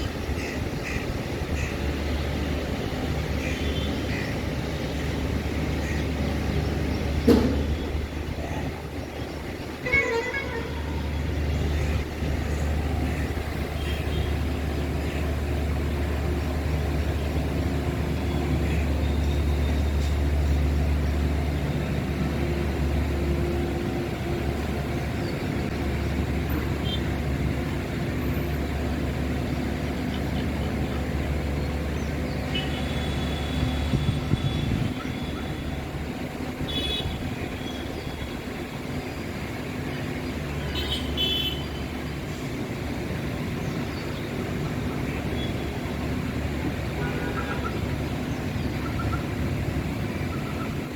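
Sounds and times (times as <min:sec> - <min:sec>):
road traffic rumble: 0:00.0 - 0:50.9.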